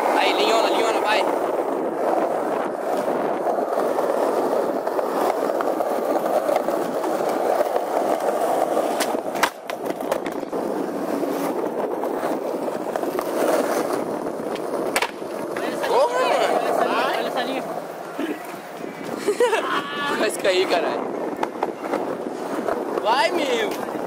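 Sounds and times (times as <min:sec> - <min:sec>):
skateboard clack: 0:00.0 - 0:19.2, 0:20.0 - 0:24.0
skateboard wheels rolling on concrete: 0:00.0 - 0:24.0.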